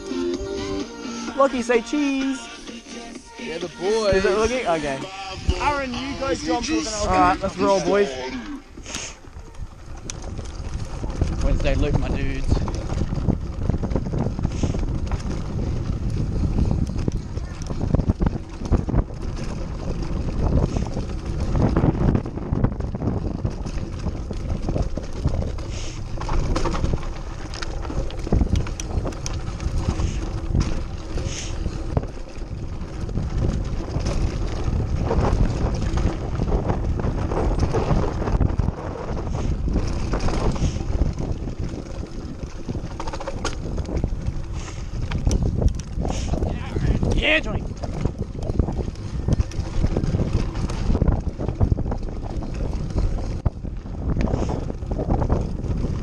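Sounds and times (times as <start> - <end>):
tyres on loose dirt: 2.8 - 56.0
wind buffeting microphone: 3.5 - 56.0
bike knocking and rattling: 8.6 - 56.0.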